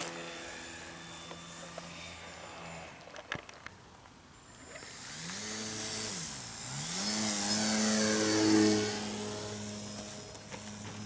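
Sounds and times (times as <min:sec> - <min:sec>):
model plane motor whine: 0:00.0 - 0:03.6, 0:04.3 - 0:11.0.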